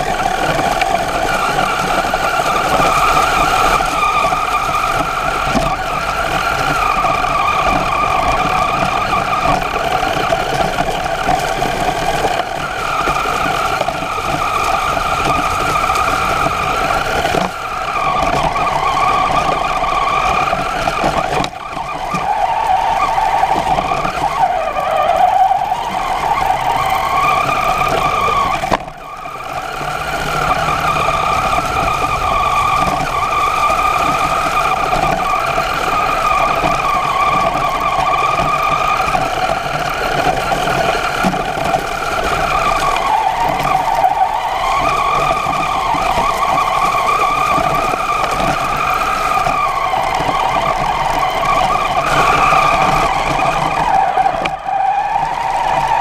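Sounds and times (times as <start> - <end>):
toy truck motor whining: 0.0 - 56.0.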